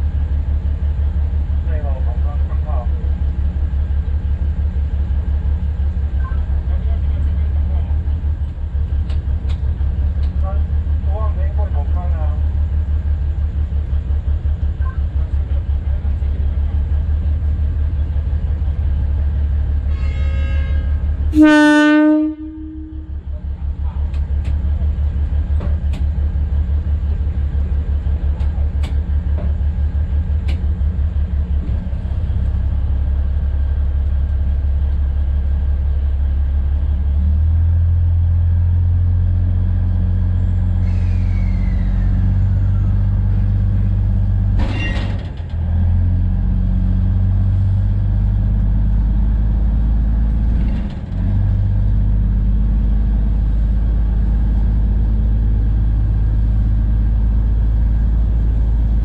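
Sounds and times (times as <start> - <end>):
diesel locomotive rumble: 0.0 - 59.0.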